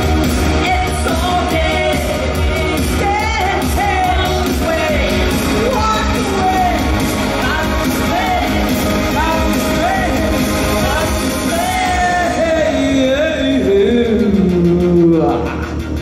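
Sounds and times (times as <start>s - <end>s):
person singing lead vocal: 0.0s - 15.8s
electronic beat: 0.0s - 16.0s
synthesizers: 0.0s - 16.0s.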